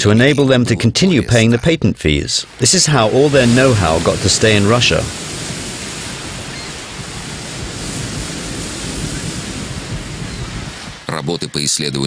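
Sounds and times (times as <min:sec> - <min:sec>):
large waves breaking: 0:02.0 - 0:11.8.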